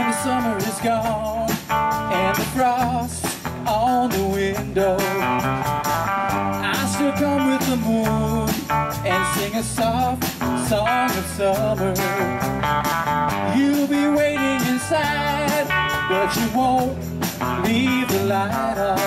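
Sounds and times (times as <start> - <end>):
live rock band playing: 0.0 - 19.0
wavering electric guitar melody: 0.0 - 19.0.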